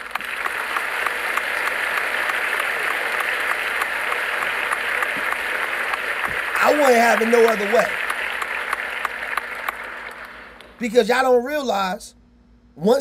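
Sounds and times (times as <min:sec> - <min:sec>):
crowd applauding: 0:00.0 - 0:10.9.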